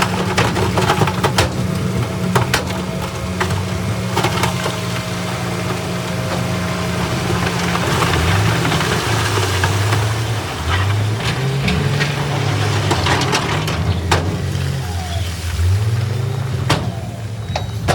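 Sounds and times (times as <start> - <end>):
diesel engine under load: 0.0 - 17.9.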